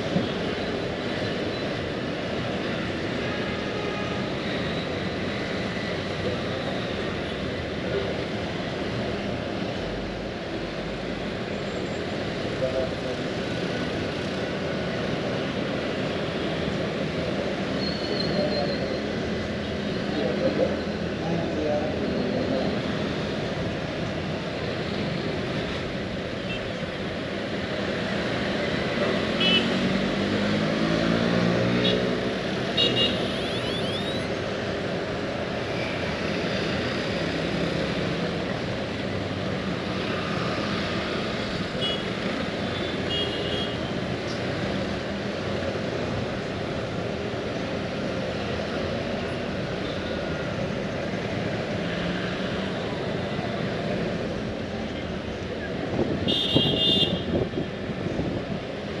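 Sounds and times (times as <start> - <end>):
road traffic: 0.0 - 59.0.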